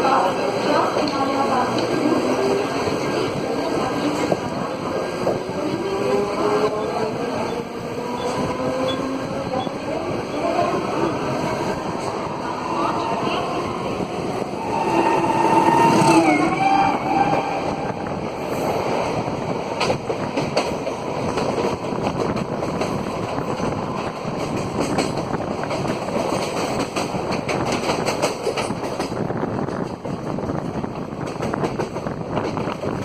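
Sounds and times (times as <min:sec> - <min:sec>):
train wheels on rails: 0:00.0 - 0:33.0.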